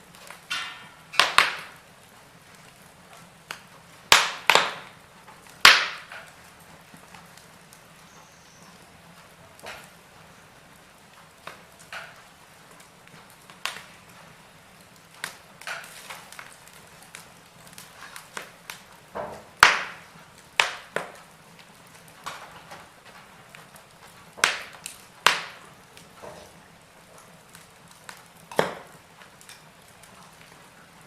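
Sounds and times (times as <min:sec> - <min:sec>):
fireplace fire crackling and popping: 0:00.0 - 0:31.0.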